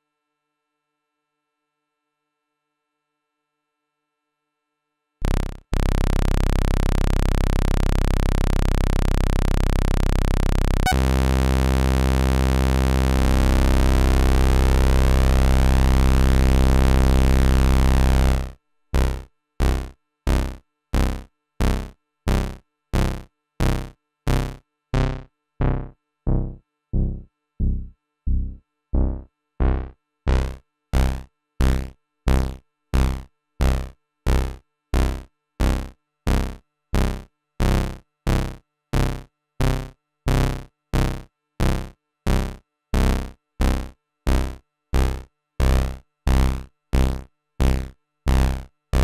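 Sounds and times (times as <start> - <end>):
sequenced synthesizer notes: 5.2 - 49.0.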